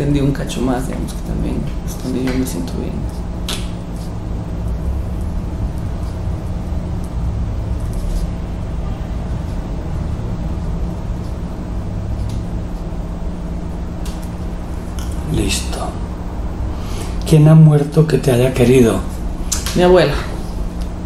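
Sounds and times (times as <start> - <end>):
low rumble and hum: 0.0 - 21.0.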